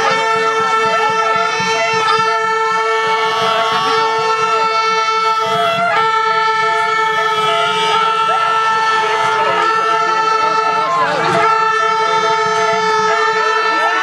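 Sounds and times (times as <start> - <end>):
loud steady horn tone: 0.0 - 14.0
people shouting and cheering: 0.0 - 14.0.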